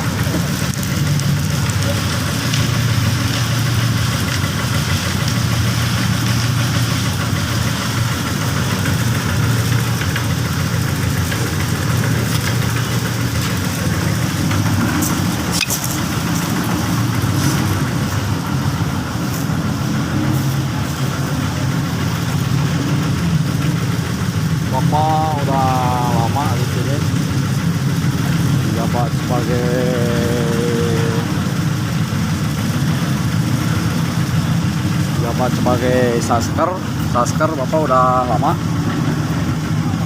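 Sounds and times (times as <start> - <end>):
drilling rig engine running: 0.0 - 40.0.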